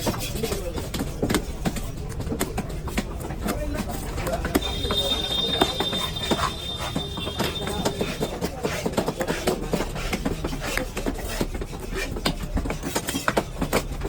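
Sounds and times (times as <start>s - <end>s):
knife chopping fish: 0.0s - 14.0s.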